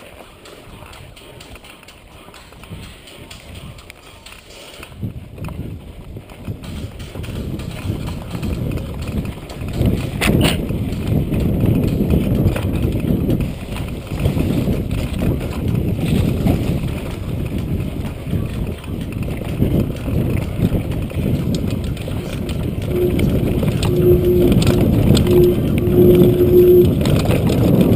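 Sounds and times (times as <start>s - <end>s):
bike rattling over rough trail: 0.0s - 23.8s.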